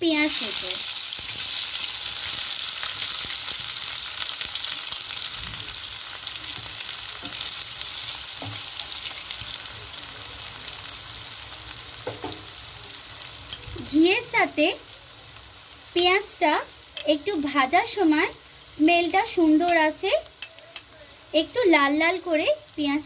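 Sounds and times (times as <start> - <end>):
onion sizzling in hot oil: 0.0 - 23.0.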